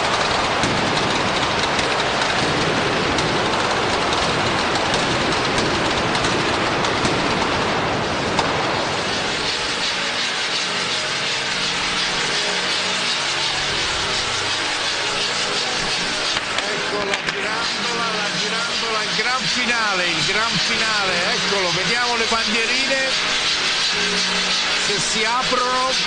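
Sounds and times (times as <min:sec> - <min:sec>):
fireworks crackling and hissing: 0:00.0 - 0:26.0.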